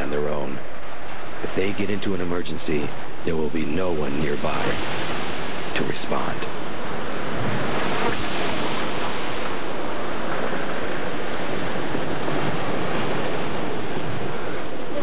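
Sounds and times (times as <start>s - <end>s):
storm wind rushing: 0.0s - 15.0s
waves breaking and spray: 0.0s - 15.0s.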